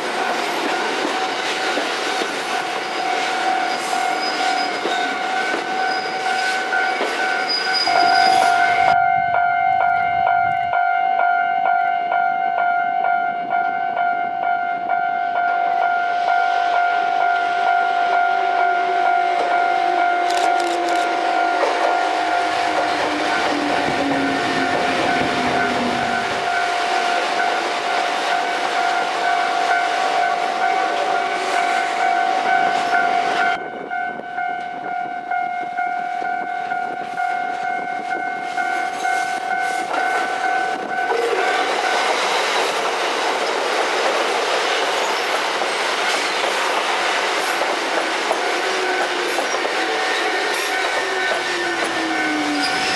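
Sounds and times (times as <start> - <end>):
train rumble and wheel clatter: 0.0 - 52.9.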